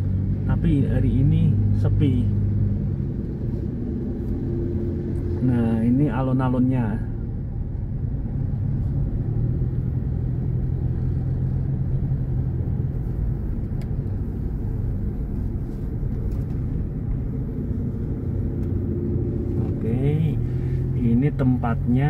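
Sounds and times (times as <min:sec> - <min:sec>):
car engine hum: 0:00.0 - 0:22.0
road rumble: 0:00.0 - 0:22.0.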